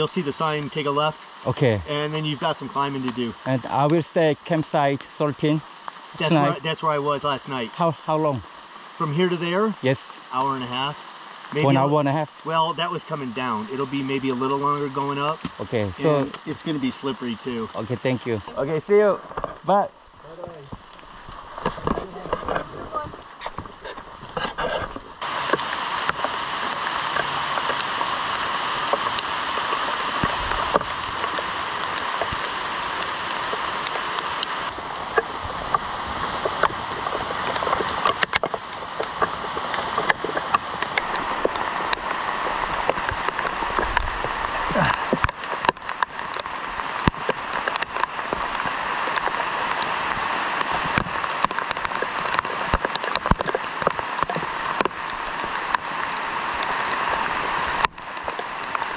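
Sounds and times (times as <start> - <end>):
raindrops ticking close by: 0.0 - 58.9
steady rain falling: 0.0 - 58.9.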